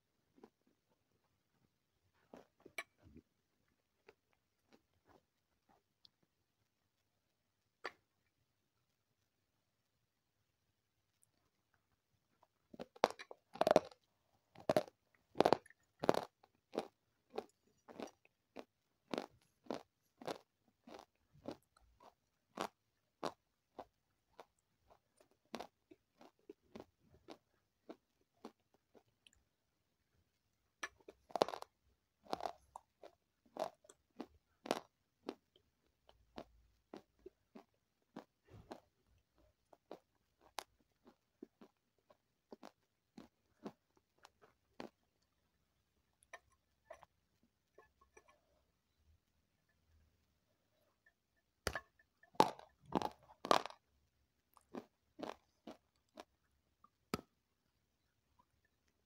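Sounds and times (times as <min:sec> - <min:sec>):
chewing crunchy food: 0:00.0 - 0:09.4, 0:11.1 - 0:59.0.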